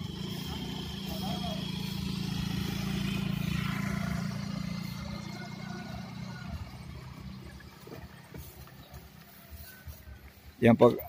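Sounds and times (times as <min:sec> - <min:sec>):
motor scooter engine passing: 0:00.0 - 0:10.0.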